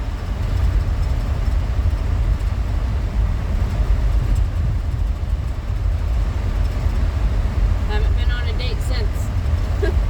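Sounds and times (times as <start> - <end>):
road and engine rumble in car: 0.0 - 10.0.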